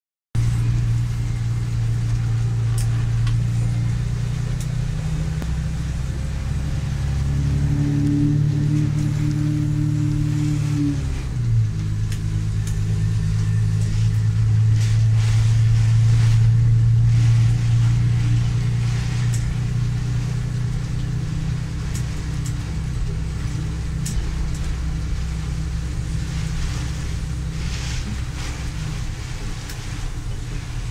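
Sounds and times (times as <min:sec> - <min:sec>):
vehicle engine humming: 0:00.3 - 0:30.9.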